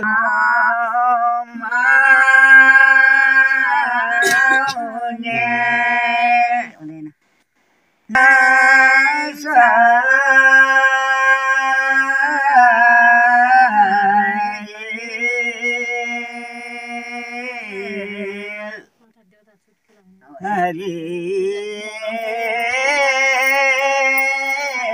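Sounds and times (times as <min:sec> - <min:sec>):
old man singing folk song: 0:00.0 - 0:06.8, 0:08.1 - 0:19.0, 0:20.2 - 0:24.9.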